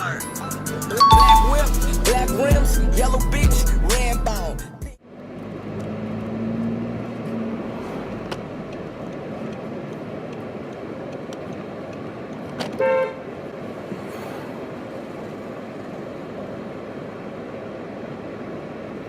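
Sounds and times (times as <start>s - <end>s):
street traffic noise: 0.0s - 19.0s.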